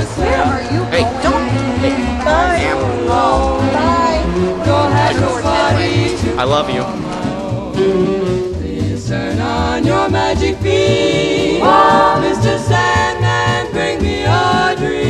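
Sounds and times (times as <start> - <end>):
song with sung vocals: 0.0 - 15.0.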